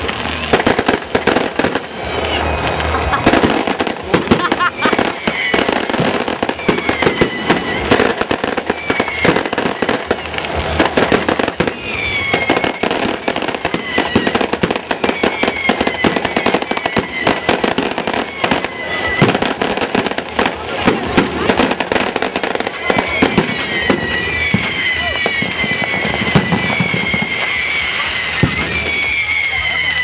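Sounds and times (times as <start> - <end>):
fireworks cracking and banging: 0.0 - 30.0
fireworks falling whistles: 0.0 - 30.0.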